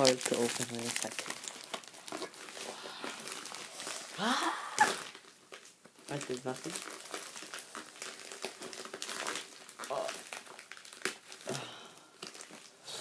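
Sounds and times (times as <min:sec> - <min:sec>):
packaging crinkling and rustling: 0:00.0 - 0:12.8.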